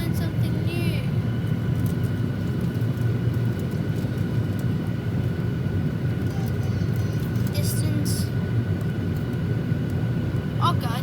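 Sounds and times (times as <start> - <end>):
airplane cabin low rumble: 0.0 - 11.0
faint whining tones: 1.4 - 10.9.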